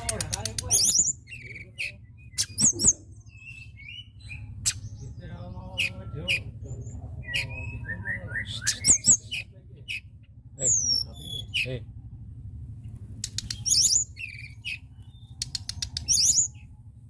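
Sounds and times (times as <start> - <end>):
songbird chirping and whistling: 0.6 - 11.7, 13.2 - 16.7.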